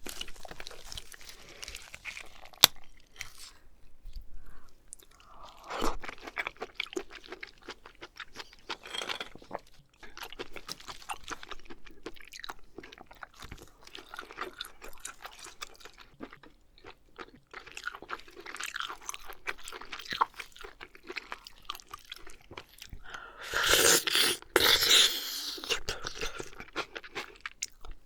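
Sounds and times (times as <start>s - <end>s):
wet chewing sounds: 0.0s - 28.0s.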